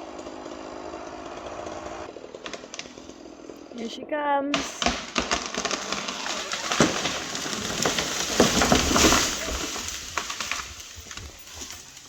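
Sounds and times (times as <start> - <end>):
tree branches cracking and crashing: 0.2 - 3.8, 4.5 - 12.0.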